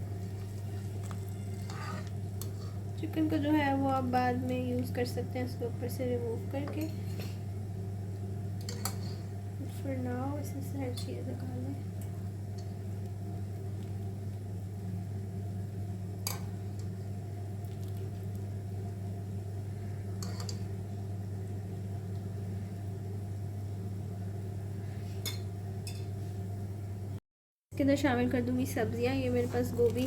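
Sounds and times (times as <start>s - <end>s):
appliance humming: 0.0s - 27.2s, 27.8s - 30.0s.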